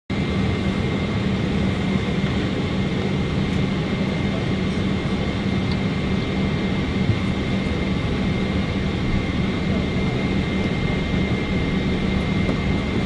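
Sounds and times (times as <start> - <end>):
constant low hum: 0.1 - 13.0.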